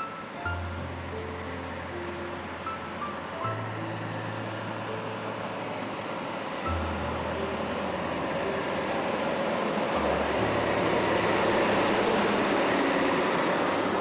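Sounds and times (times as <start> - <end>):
low held music notes: 0.0 - 14.0
steady rushing machine noise: 0.5 - 14.0.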